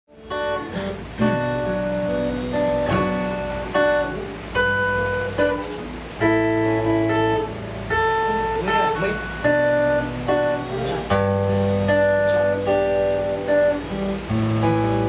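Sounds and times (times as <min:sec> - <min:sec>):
fingerstyle acoustic guitar: 0:00.1 - 0:15.0.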